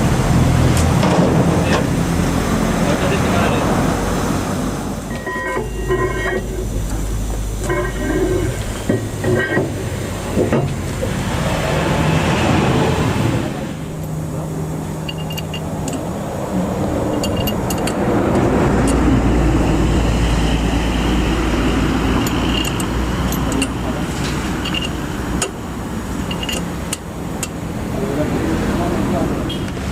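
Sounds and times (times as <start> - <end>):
heavy low vehicle rumble: 0.0 - 29.9
road traffic passing: 0.0 - 29.9.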